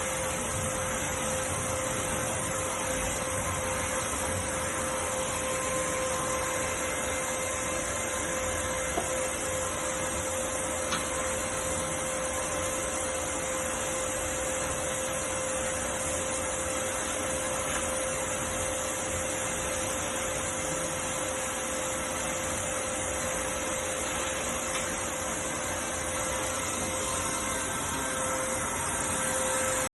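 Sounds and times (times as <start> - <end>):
vacuum cleaner motor whine: 0.0 - 29.9.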